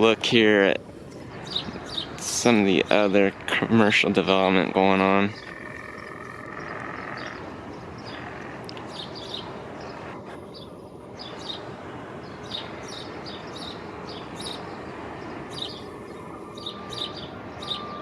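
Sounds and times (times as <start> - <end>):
low rushing background noise: 0.0 - 18.0
small birds chirping: 0.0 - 18.0.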